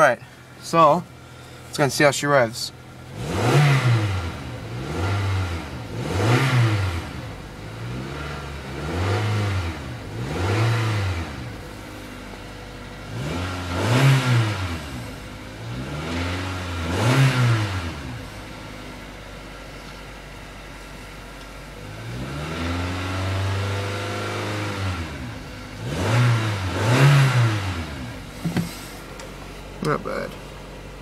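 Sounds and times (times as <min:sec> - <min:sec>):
car engine idling: 0:00.0 - 0:08.9, 0:09.5 - 0:13.8, 0:14.4 - 0:17.0, 0:17.6 - 0:22.2, 0:23.8 - 0:31.0
car engine revving: 0:02.8 - 0:19.5, 0:21.7 - 0:31.0.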